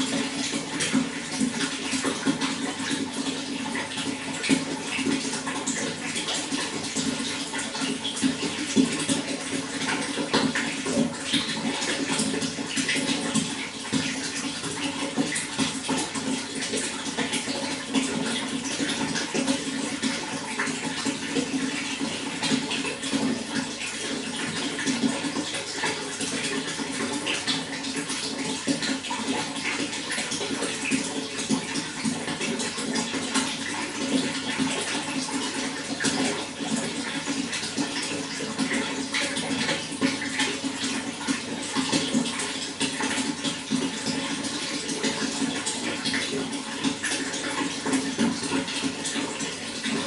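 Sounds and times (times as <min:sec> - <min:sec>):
running water splashing: 0:00.0 - 0:50.0.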